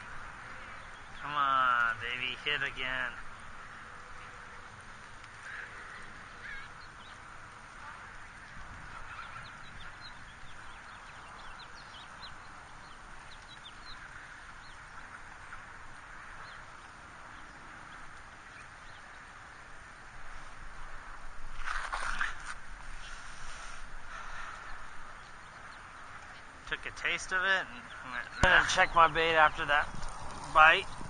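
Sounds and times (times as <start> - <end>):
waterfowl flock chatter: 0.0 - 19.2, 23.0 - 31.0.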